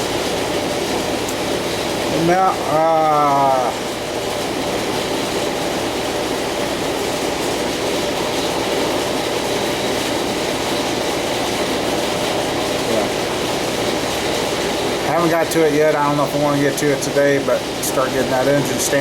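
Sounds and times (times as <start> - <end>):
steady mechanical noise: 0.0 - 19.0.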